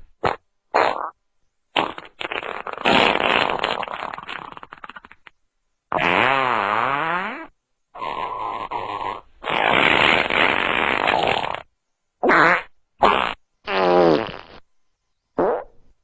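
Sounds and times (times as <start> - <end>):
fart sound effects: 0.2 - 5.3, 5.9 - 14.6, 15.4 - 15.8.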